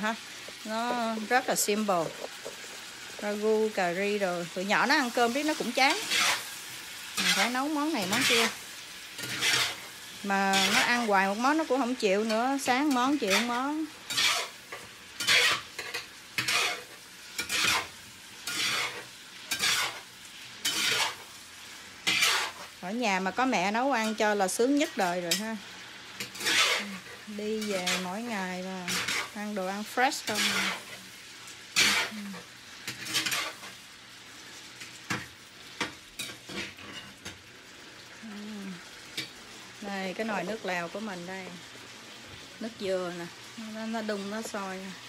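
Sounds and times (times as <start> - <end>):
chicken sizzling in hot oil: 0.0 - 45.0
spoon scraping skillet: 0.1 - 37.5, 38.8 - 40.5.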